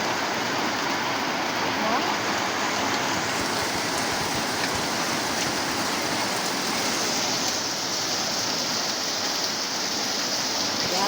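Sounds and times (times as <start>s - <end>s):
steady rainfall: 0.0s - 11.0s.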